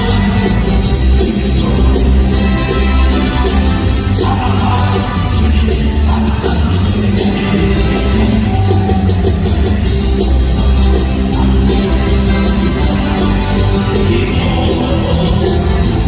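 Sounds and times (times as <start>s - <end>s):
band playing loud: 0.0s - 16.0s
electric guitar: 0.0s - 16.0s
heavy bass: 0.0s - 16.0s
person singing: 0.0s - 16.0s
steady drum beat: 0.0s - 16.0s.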